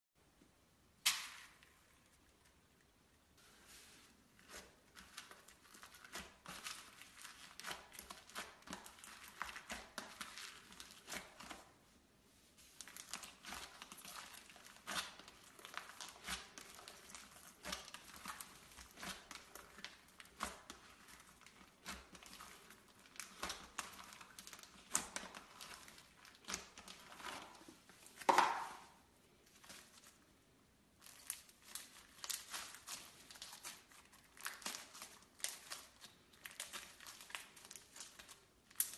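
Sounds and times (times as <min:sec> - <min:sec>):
slime crackling and crunching: 0:04.4 - 0:11.7, 0:12.7 - 0:28.8, 0:31.0 - 0:38.9.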